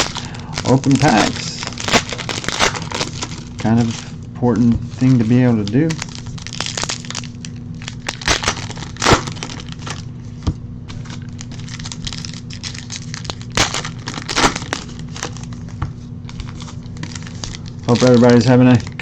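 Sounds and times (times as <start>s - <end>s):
card pack wrapper tearing: 0.0s - 4.1s, 5.0s - 10.0s, 11.0s - 19.0s.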